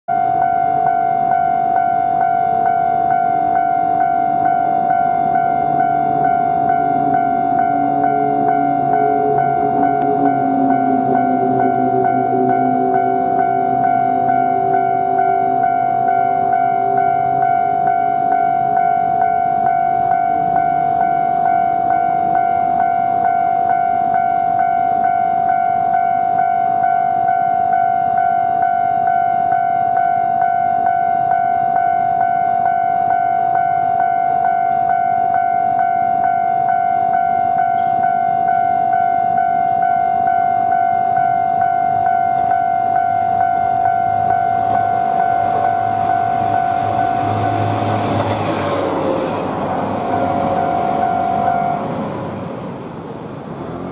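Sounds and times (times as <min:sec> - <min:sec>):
level crossing alarm ringing: 0:00.1 - 0:48.4, 0:50.0 - 0:53.9
diesel railcar passing: 0:00.1 - 0:53.9.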